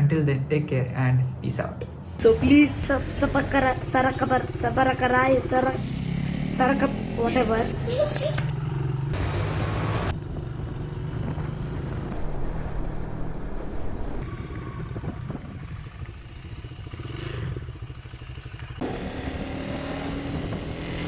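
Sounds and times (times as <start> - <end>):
motorcycle engine running: 2.3 - 21.0.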